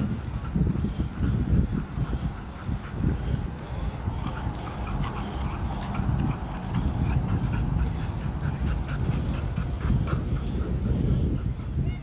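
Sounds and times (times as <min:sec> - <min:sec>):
dog panting: 0:00.0 - 0:12.0
low buffeting rumble: 0:00.0 - 0:12.0.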